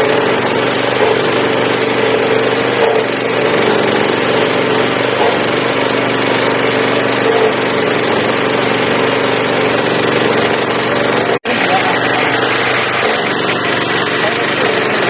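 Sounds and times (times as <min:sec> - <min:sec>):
stump grinder engine running: 0:00.0 - 0:15.0.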